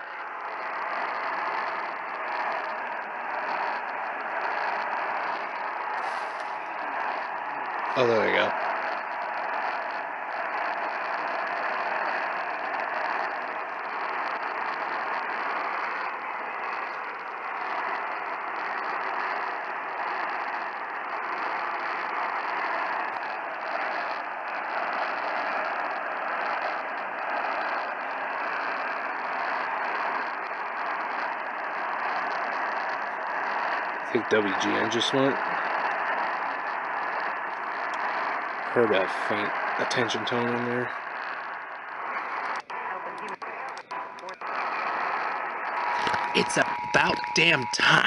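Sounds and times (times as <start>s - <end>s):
radio static and hiss: 0.0s - 48.0s.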